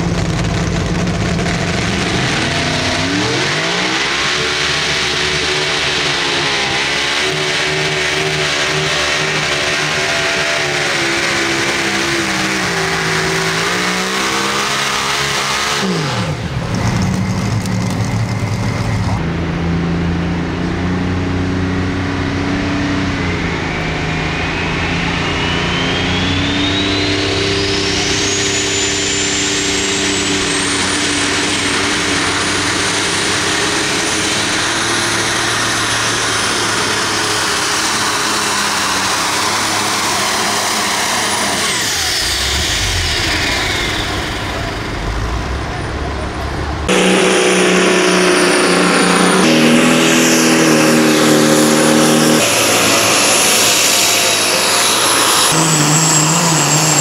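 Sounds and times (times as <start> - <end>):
diesel tractor under full load: 0.0 - 57.0
tractor engine winding down: 0.0 - 57.0
turbo whine: 0.0 - 57.0.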